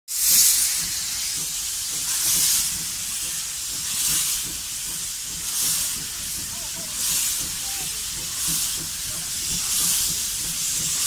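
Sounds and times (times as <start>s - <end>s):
low train rumble: 0.1s - 11.0s
train hiss: 0.1s - 11.0s.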